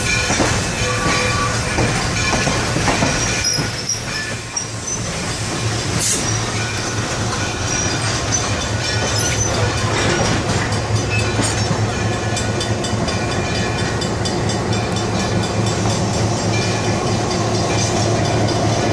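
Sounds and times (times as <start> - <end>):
steam train rumbling: 0.0 - 18.9.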